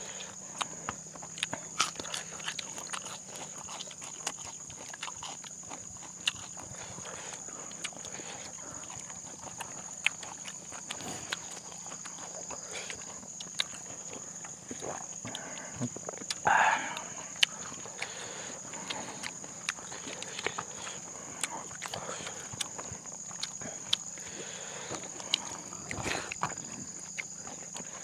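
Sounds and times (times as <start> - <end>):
wet chewing and lip-smacking: 0.0 - 28.0.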